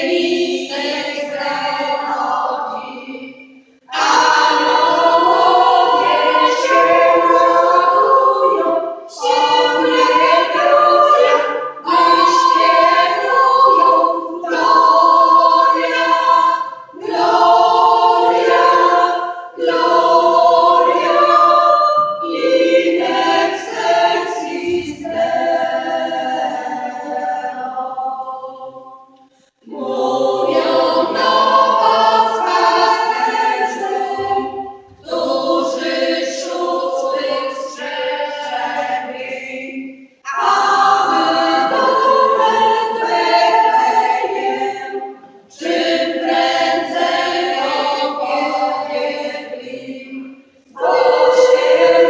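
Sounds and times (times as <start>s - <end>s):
women's choir singing a carol: 0.0s - 52.0s.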